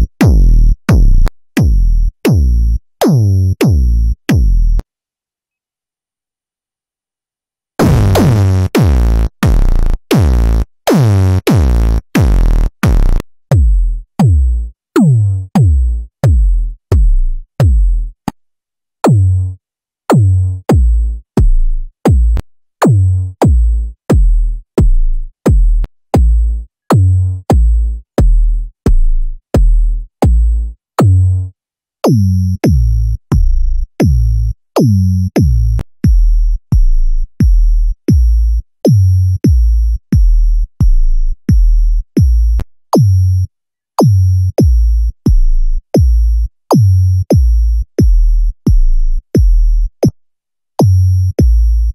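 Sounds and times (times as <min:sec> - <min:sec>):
electronic kick drum: 0:00.0 - 0:04.8, 0:07.8 - 0:18.2, 0:20.1 - 0:31.2, 0:32.0 - 0:43.2, 0:44.0 - 0:50.2, 0:50.8 - 0:51.9.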